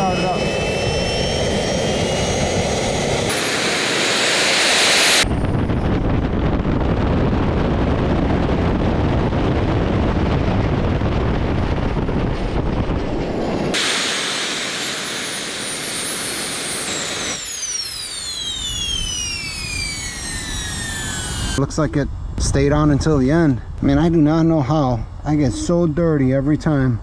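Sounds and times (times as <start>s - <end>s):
turbines spooling down: 0.0s - 22.9s
high turbine whine: 0.0s - 27.0s
jet turbines rushing: 0.0s - 27.0s.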